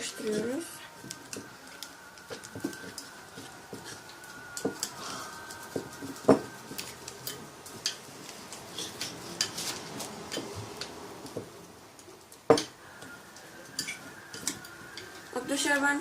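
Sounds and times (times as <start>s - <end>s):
spoons stirring slime in bowls: 0.0s - 16.0s.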